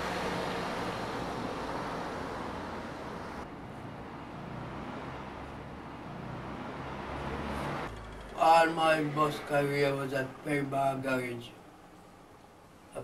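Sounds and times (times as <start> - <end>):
low engine rumble: 0.0 - 12.3
road noise rushing: 0.0 - 13.0.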